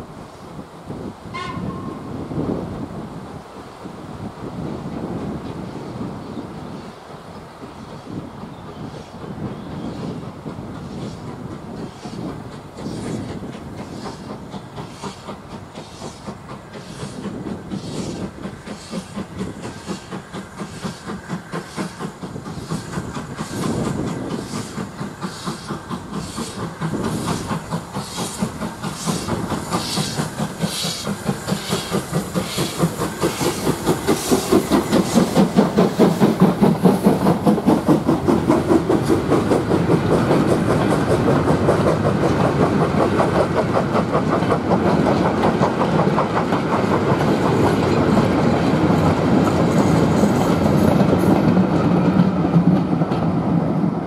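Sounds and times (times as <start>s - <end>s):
steam locomotive exhaust beats: 0.0s - 54.0s.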